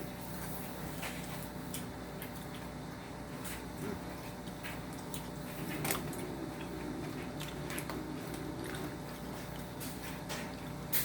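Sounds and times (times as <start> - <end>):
chewing and biting: 0.4 - 11.0.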